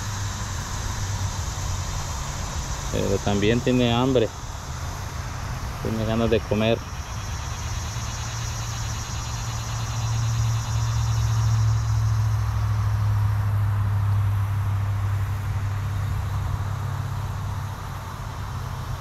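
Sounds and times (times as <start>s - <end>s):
insects chirring: 0.0s - 19.0s
low engine rumble: 0.0s - 19.0s.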